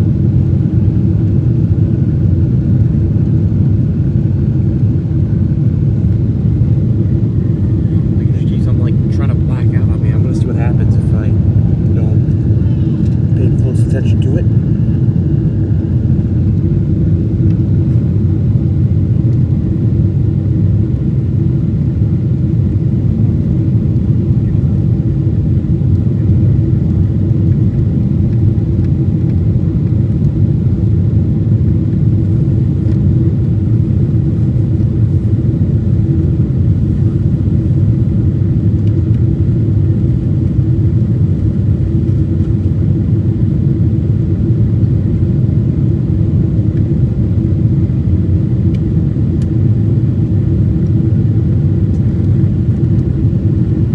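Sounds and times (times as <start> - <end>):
jet engine drone: 0.0 - 53.9
low hum: 0.0 - 53.9.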